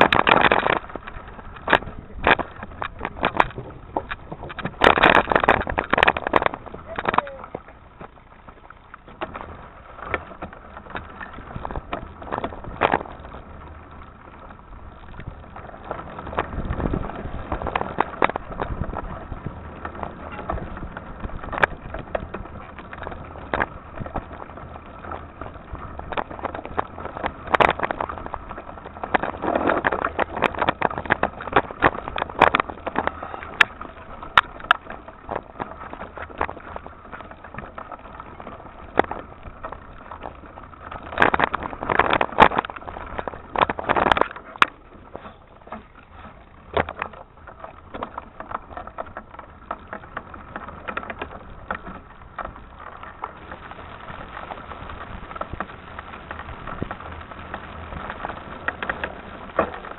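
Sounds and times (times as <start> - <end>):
bike parts rattling and knocking: 0.0 - 59.9
tyre and wind noise: 0.0 - 59.9.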